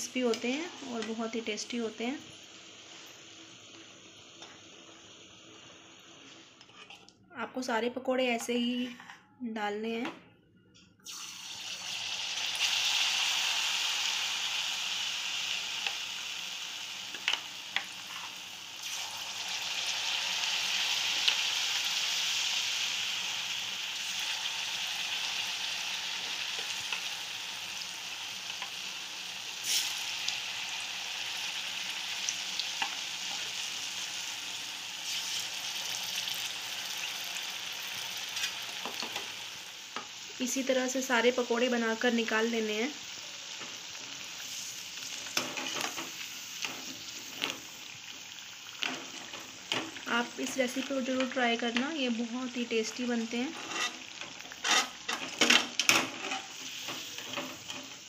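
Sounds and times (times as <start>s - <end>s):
potato slices sizzling in oil: 0.0s - 6.9s, 11.0s - 58.0s.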